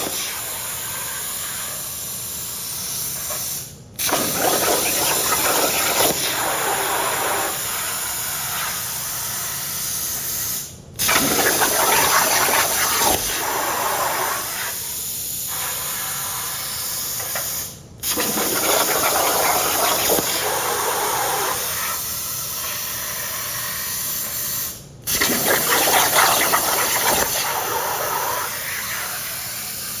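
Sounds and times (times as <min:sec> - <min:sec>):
plasma torch hissing: 0:00.0 - 0:02.0, 0:02.8 - 0:30.0.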